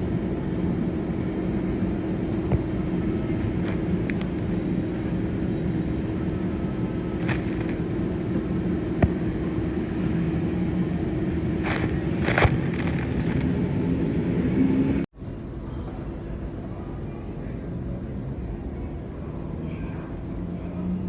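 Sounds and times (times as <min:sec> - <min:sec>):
aircraft engine rumble: 0:00.0 - 0:20.8.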